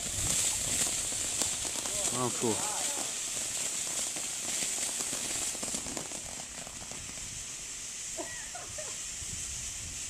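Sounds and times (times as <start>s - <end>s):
firework hissing and crackling: 0.0s - 10.0s.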